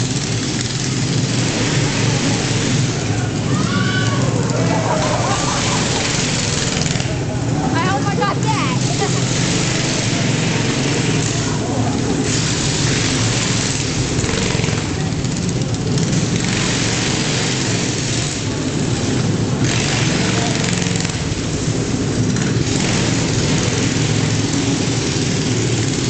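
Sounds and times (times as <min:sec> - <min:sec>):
small engines revving: 0:00.0 - 0:26.0.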